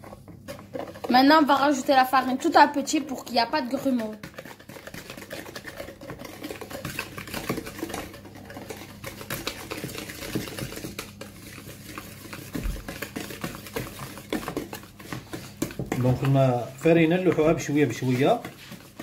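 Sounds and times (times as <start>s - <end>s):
whisk scraping plastic bowl: 0.0s - 19.0s.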